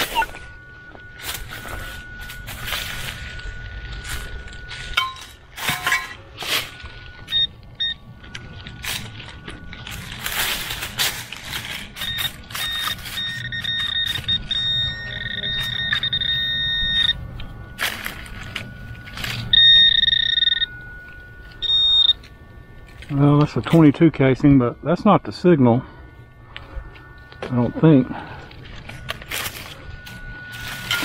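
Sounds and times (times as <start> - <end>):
pinpointer high electronic tone: 0.0 - 31.0.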